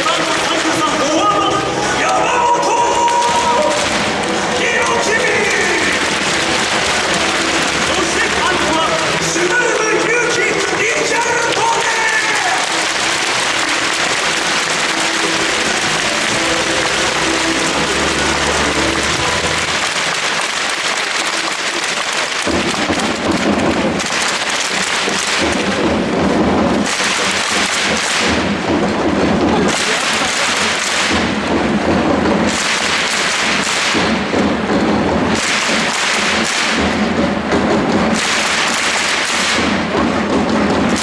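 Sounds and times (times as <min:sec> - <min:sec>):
stadium crowd chanting and cheering: 0:00.0 - 0:41.0.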